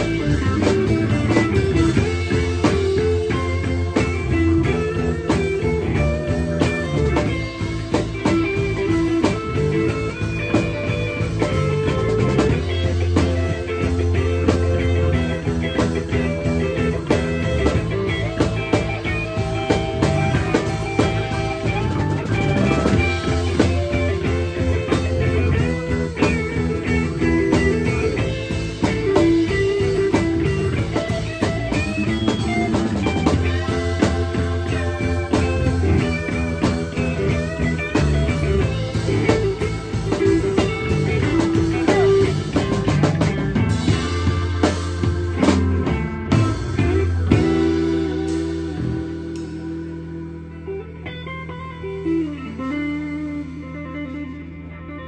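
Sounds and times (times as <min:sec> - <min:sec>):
drum kit: 0:00.0 - 0:54.6
bass guitar: 0:00.0 - 0:55.0
electric guitar: 0:00.0 - 0:55.0.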